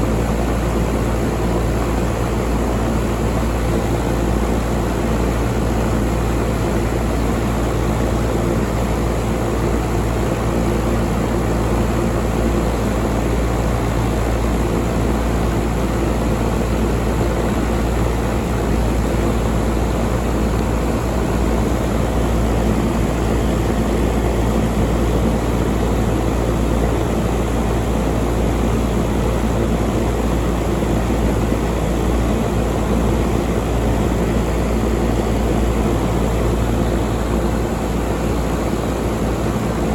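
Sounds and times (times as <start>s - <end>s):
air conditioner hum and fan: 0.0s - 39.9s.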